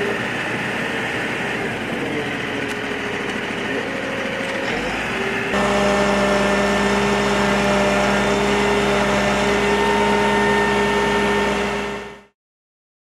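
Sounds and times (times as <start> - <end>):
truck engine idling: 0.0 - 12.3.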